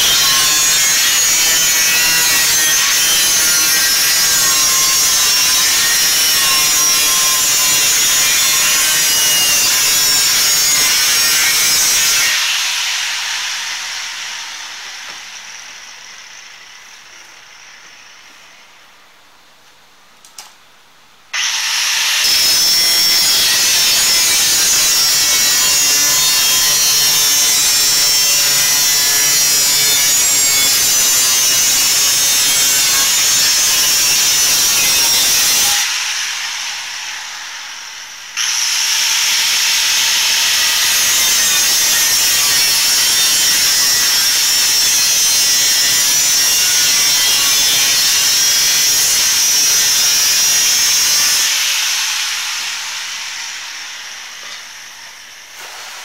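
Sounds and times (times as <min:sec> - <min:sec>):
angle grinder grinding steel: 0:00.0 - 0:18.8, 0:21.4 - 0:56.0.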